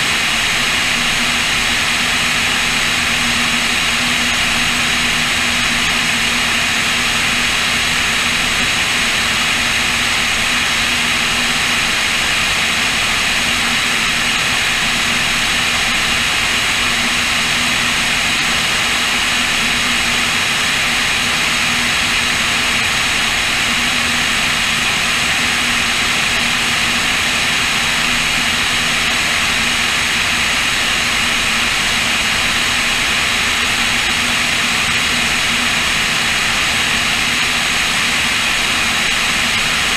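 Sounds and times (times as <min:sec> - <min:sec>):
propeller engines droning: 0:00.0 - 0:39.9.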